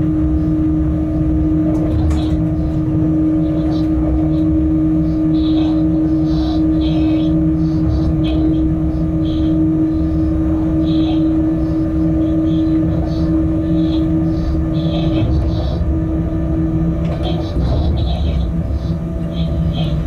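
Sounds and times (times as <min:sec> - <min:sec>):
locomotive hum with constant tone: 0:00.0 - 0:20.0
wheels rumbling on rails: 0:00.0 - 0:20.0.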